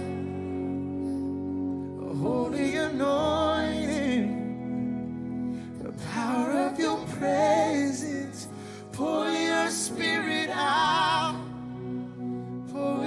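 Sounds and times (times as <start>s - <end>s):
person singing with vibrato: 0.0s - 13.0s
sustained accompaniment chords: 0.0s - 13.0s.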